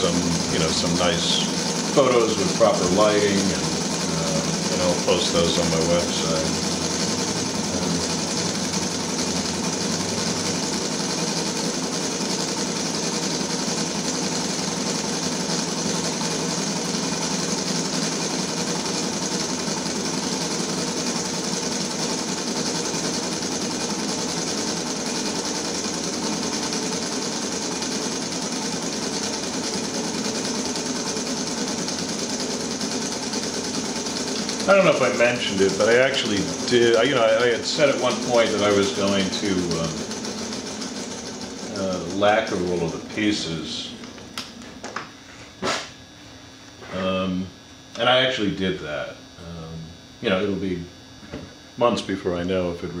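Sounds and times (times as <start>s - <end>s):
model engine mechanical whir: 0.0s - 43.8s.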